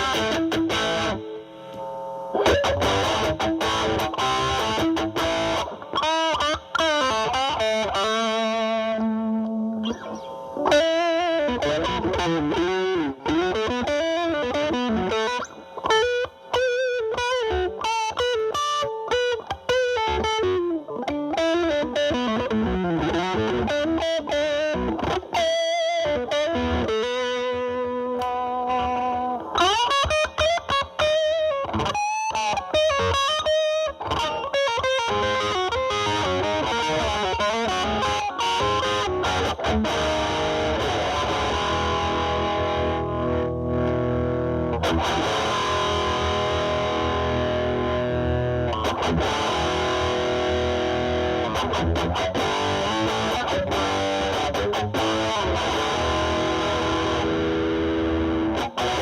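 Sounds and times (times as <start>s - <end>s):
distorted electric guitar lead: 0.0s - 59.0s.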